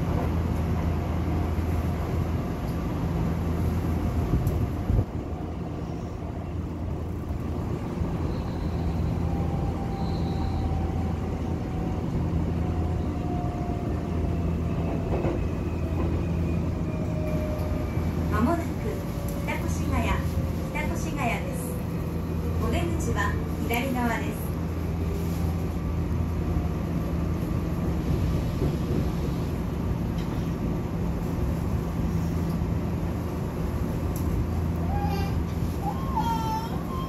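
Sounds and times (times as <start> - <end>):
wheels rumbling on rails: 0.0 - 37.0.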